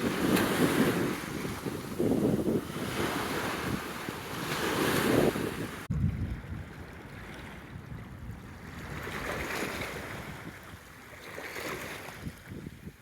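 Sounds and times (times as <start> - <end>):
gentle ocean waves on shore: 0.0 - 13.0
wind noise on microphone: 0.0 - 13.0.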